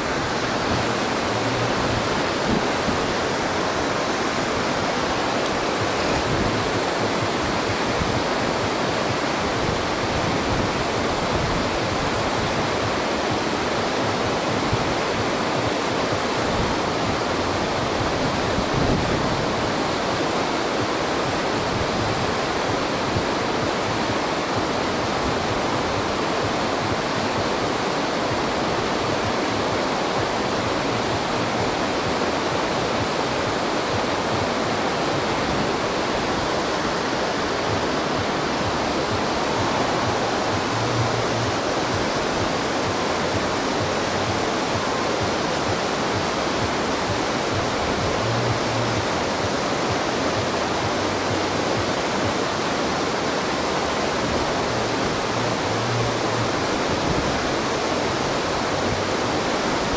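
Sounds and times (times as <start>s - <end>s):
water roaring over dam: 0.0s - 59.9s.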